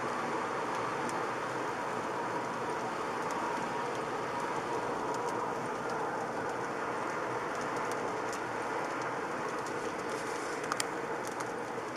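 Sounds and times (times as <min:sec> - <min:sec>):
car road and tyre noise: 0:00.0 - 0:11.9
faint light ticks: 0:00.7 - 0:01.2, 0:02.4 - 0:11.9.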